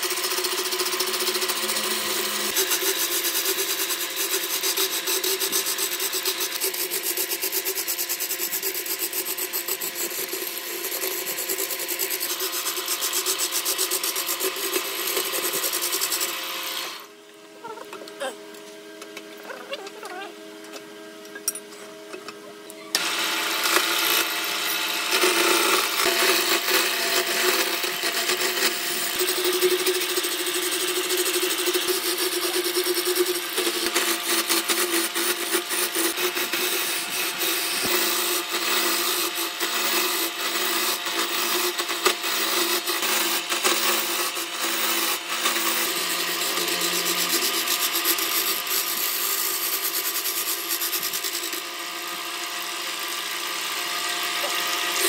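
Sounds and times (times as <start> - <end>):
turning tool scraping spinning wood: 0.0 - 17.0, 23.0 - 53.1
lathe motor hum: 0.0 - 17.1, 23.0 - 55.0.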